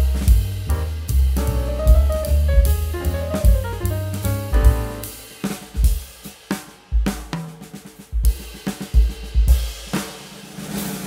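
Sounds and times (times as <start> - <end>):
drum kit playing a beat: 0.0 - 11.0.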